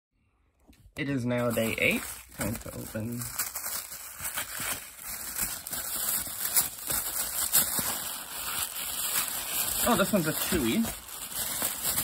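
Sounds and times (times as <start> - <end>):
packaging crinkling and rustling: 1.4 - 12.0.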